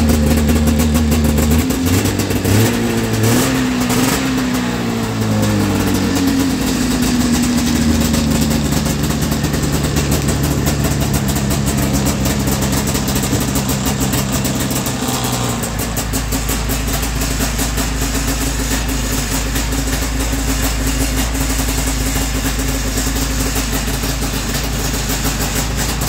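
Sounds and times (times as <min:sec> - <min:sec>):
snowmobile engine idling: 0:00.0 - 0:26.0.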